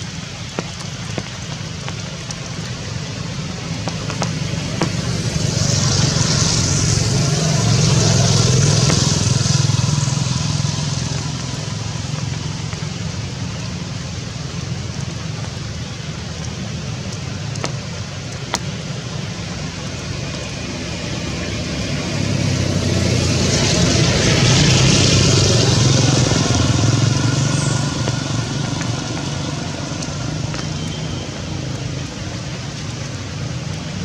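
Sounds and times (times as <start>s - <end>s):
steady rain: 0.0s - 34.0s
vehicle passing on wet road: 0.0s - 34.0s.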